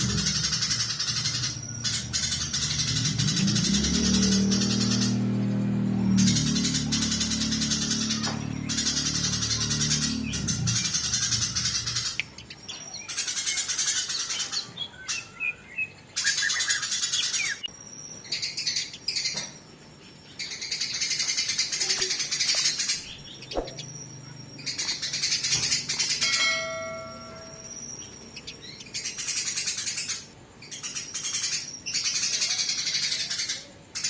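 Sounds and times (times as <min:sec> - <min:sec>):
sparrows chattering harshly: 0:00.0 - 0:34.0.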